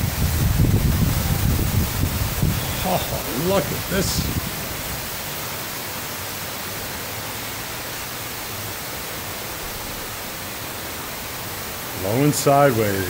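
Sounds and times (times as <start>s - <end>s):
heavy rain in strong wind: 0.0s - 13.0s.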